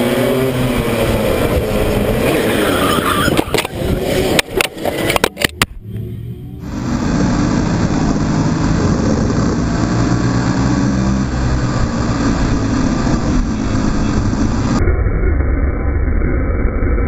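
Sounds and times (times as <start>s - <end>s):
other karts nearby: 0.0s - 14.8s
kart engine racing: 0.0s - 15.9s.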